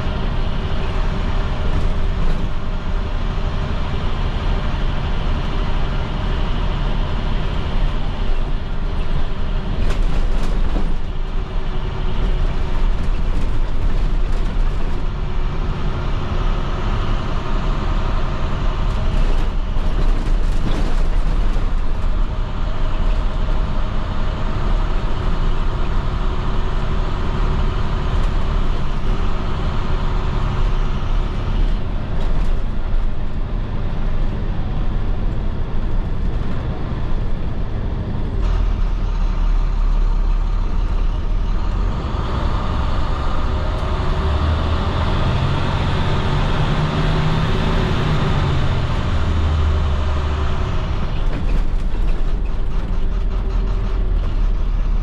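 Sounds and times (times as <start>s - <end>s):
diesel bus engine running: 0.0s - 55.0s
road noise: 0.0s - 55.0s.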